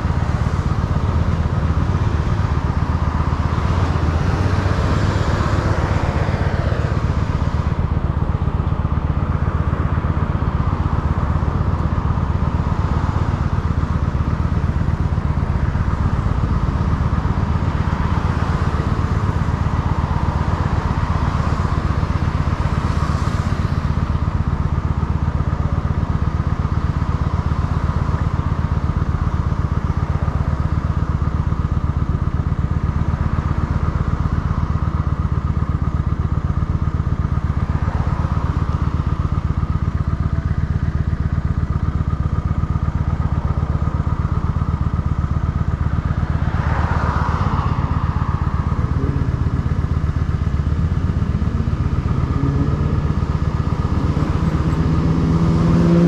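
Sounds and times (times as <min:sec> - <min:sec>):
motorcycle engine idling: 0:00.0 - 0:56.0
passing traffic: 0:00.0 - 0:56.0.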